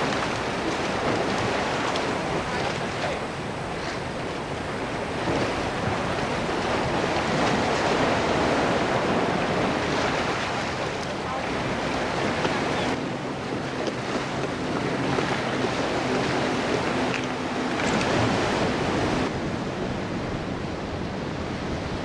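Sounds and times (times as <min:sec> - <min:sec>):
sea waves against rock wall: 0:00.0 - 0:20.1
wind buffeting microphone: 0:00.0 - 0:22.0.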